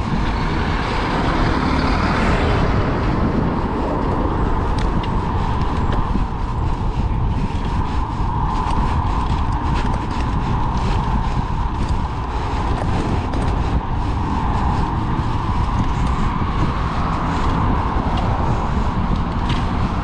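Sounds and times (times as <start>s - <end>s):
tyre and road noise: 0.0s - 20.0s
wind rumble on microphone: 0.0s - 20.0s.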